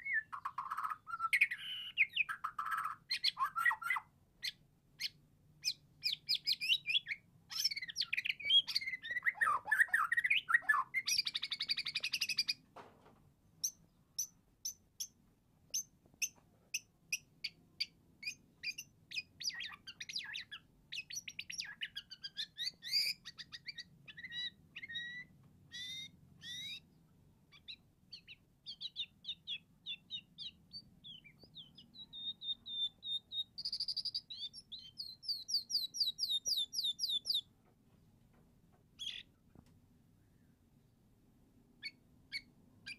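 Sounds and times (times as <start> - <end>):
songbird chirping and warbling: 0.0 - 12.7, 13.6 - 38.1, 39.0 - 39.4, 41.8 - 42.9.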